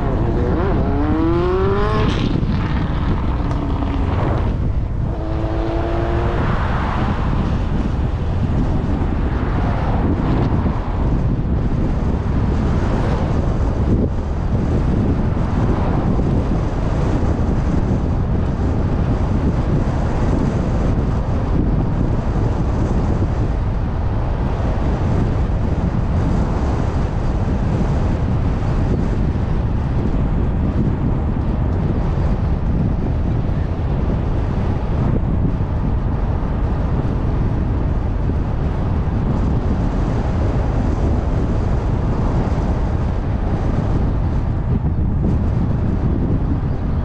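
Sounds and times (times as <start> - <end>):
car road noise: 0.0 - 47.0
wind on microphone: 0.0 - 47.0.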